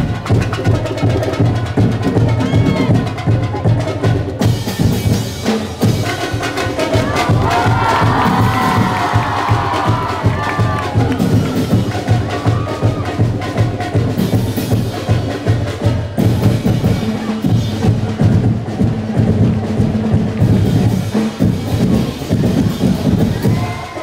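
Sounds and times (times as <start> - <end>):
bass drums: 0.0 - 24.0
snare drums: 0.0 - 24.0.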